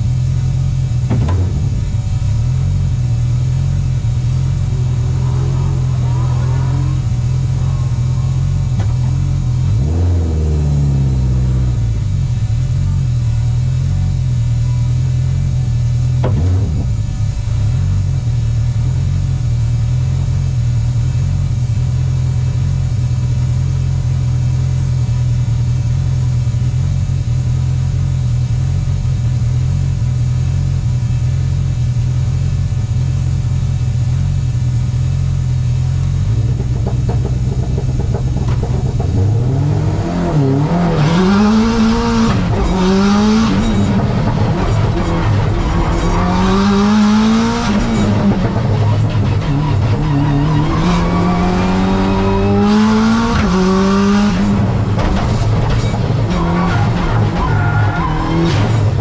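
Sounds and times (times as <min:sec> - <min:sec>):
race car engine running: 0:00.0 - 0:59.0.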